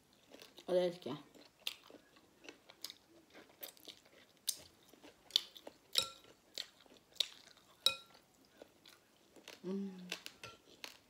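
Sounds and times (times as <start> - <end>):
close chewing: 0.1 - 0.7, 1.3 - 11.0.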